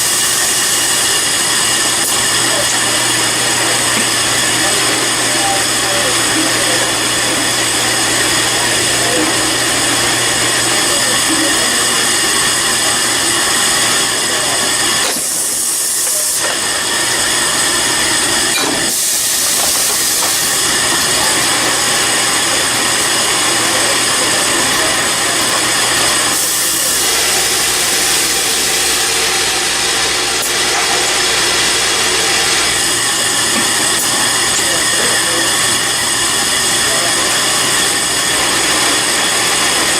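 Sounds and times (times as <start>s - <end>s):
machinery humming: 0.0s - 39.9s.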